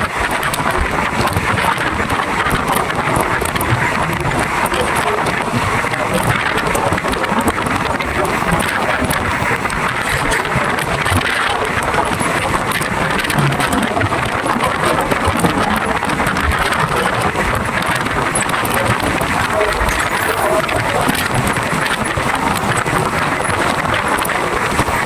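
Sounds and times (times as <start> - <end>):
small clicks of train: 0.0 - 25.0
train rumbling and rattling: 0.1 - 25.0.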